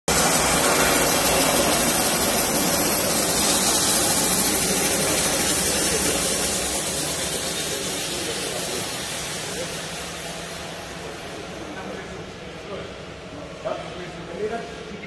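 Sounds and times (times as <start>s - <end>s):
band sawmill motor running: 0.1s - 13.6s.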